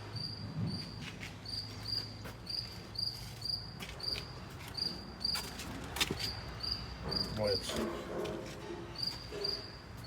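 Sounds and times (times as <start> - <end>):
cricket chirping: 0.0 - 5.6, 6.2 - 7.7, 8.6 - 10.0.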